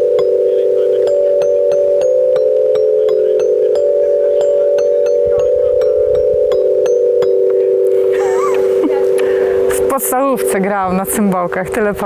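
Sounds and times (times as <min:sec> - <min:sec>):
glockenspiel notes: 0:00.0 - 0:12.0
steady held chord: 0:00.0 - 0:12.0.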